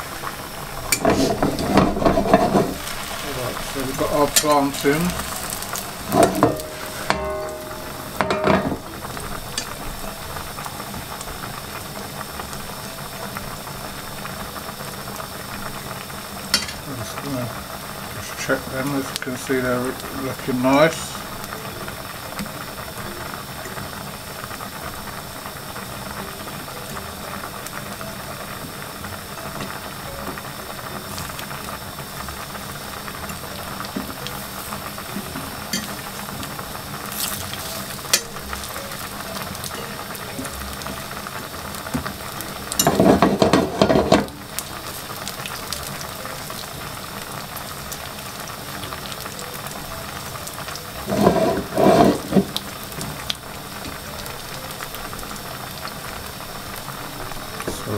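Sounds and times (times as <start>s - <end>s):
plantain sizzling in frying pan: 0.0s - 57.9s.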